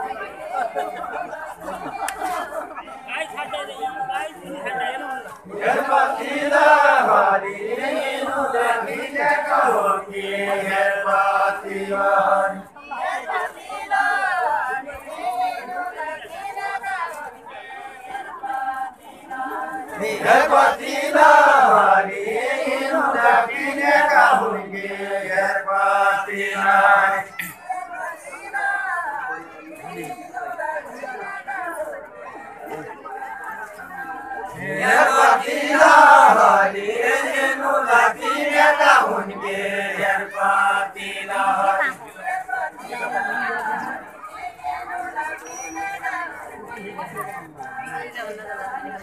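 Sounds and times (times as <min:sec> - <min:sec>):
unaccompanied folk singing: 0:00.0 - 0:49.0.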